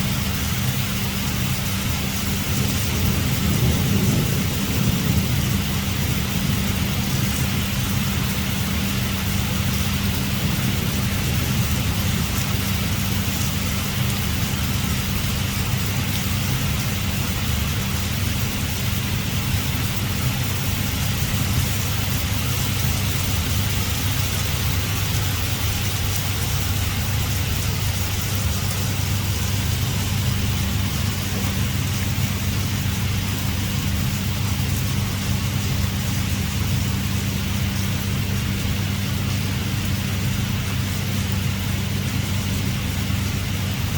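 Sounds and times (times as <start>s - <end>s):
heavy rain: 0.0s - 43.9s
steady low hum: 0.0s - 43.9s.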